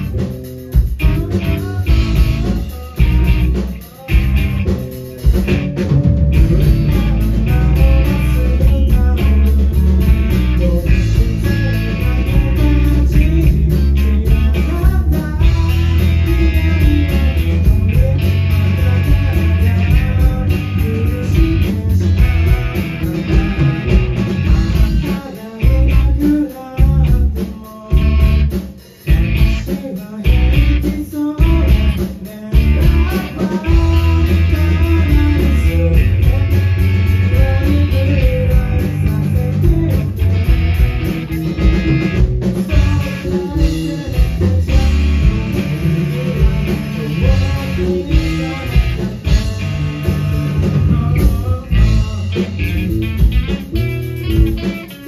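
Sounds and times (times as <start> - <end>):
bass guitar: 0.0 - 55.0
drums: 0.0 - 55.0
electric guitar: 0.0 - 55.0
person singing: 0.0 - 55.0.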